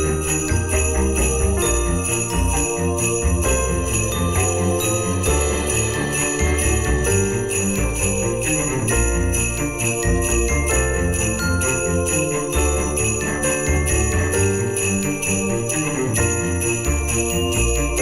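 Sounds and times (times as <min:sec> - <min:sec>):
bells ringing: 0:00.0 - 0:18.0.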